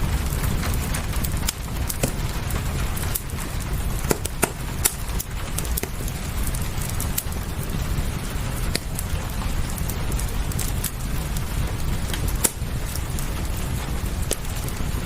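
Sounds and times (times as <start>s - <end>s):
low rumble: 0.0s - 15.0s
steady rain: 0.0s - 15.0s
wood fire crackling: 0.0s - 15.0s.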